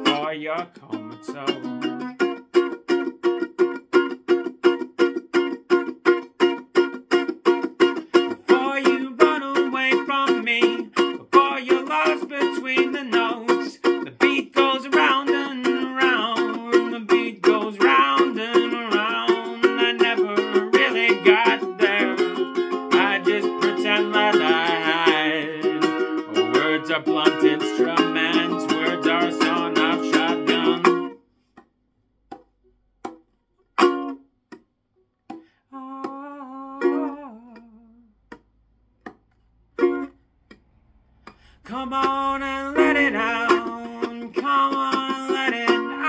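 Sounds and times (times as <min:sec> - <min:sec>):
ukulele strummed fast: 0:00.0 - 0:31.2, 0:33.0 - 0:34.2, 0:39.8 - 0:46.0.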